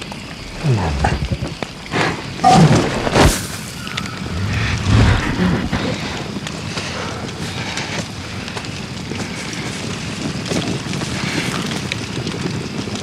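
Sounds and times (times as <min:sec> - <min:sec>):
campfire hissing: 0:00.0 - 0:13.0
fire crackles: 0:00.0 - 0:13.0.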